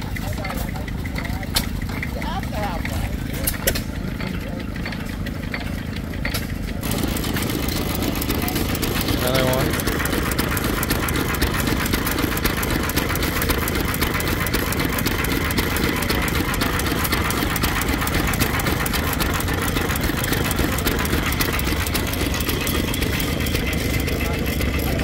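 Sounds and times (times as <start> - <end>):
stationary engine knocking: 0.0 - 25.0.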